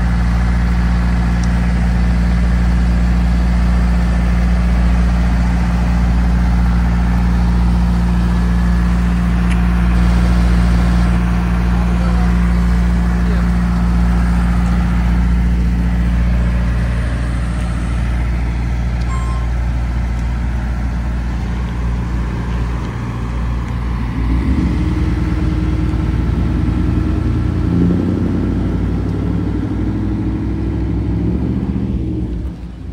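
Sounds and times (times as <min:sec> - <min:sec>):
rough vehicle engine: 0:00.0 - 0:32.9
truck engine running: 0:00.0 - 0:32.9.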